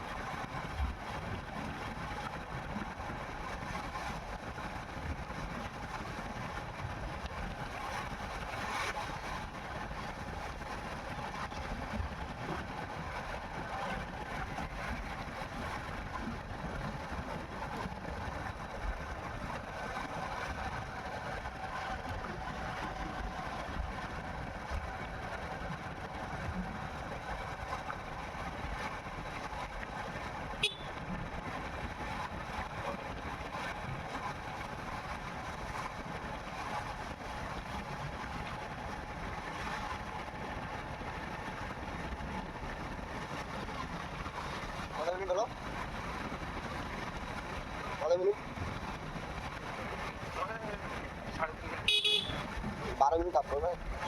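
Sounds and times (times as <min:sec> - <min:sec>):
motorcycle engine running: 0:09.2 - 0:54.0.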